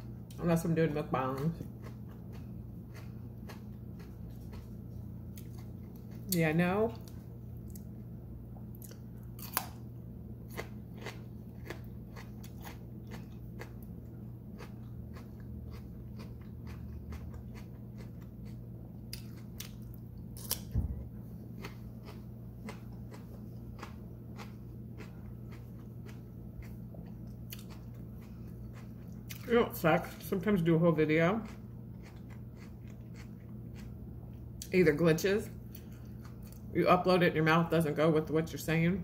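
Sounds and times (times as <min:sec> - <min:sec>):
chewing crunchy food: 0:01.0 - 0:06.4, 0:07.0 - 0:30.7, 0:31.3 - 0:34.7, 0:35.5 - 0:36.7.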